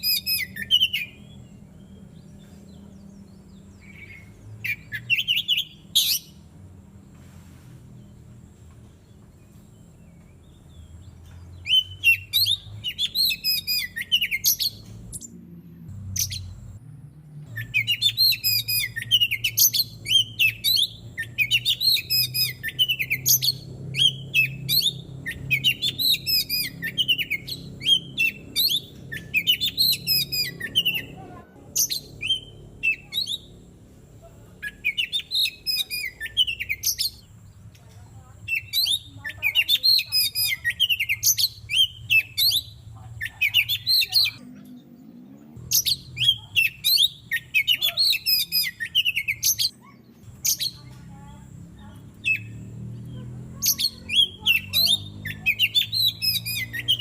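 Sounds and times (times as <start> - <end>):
bird singing whistles and chatter: 0.0 - 6.4, 9.4 - 15.4, 17.5 - 33.6, 34.6 - 37.3, 38.2 - 44.4, 45.6 - 57.0.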